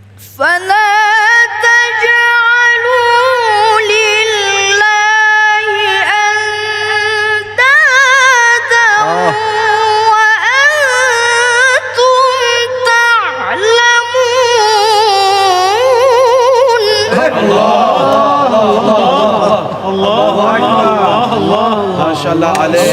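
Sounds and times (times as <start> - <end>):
boy reciting melodically: 0.2 - 22.9.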